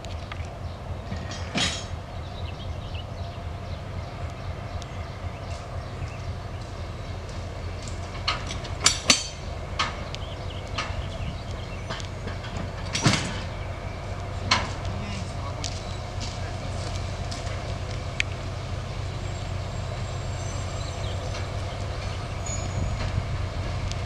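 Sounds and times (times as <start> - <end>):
distant locomotive rumbling: 0.0 - 24.0.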